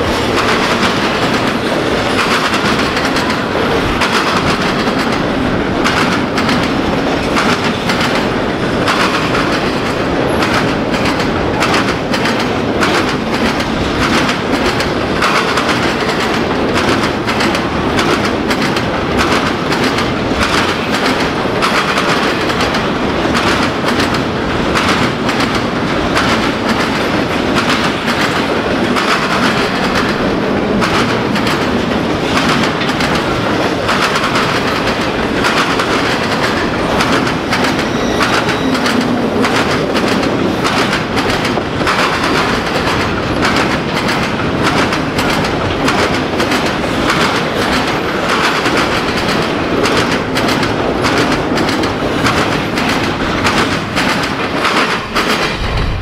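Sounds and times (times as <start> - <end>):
rumble and rattle of rail cars: 0.0 - 56.0
train wheels clickety-clack: 0.0 - 56.0.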